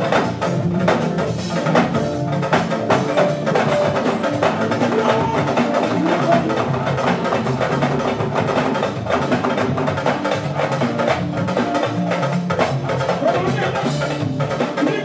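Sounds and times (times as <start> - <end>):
bass guitar: 0.0 - 15.0
hand-drum and kit percussion: 0.0 - 15.0
keyboard: 0.0 - 15.0.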